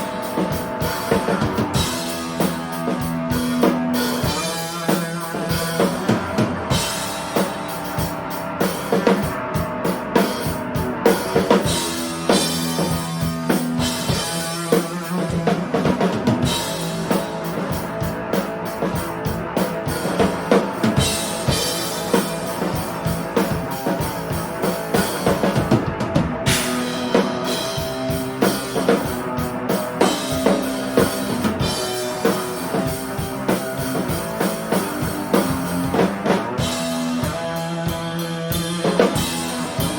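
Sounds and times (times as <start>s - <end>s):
drum kit beat: 0.0s - 39.9s
live band jamming: 0.0s - 39.9s.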